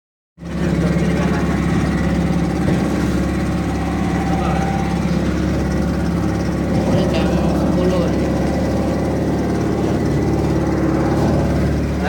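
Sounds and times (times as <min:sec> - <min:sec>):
speedboat engine running: 0:00.4 - 0:12.0.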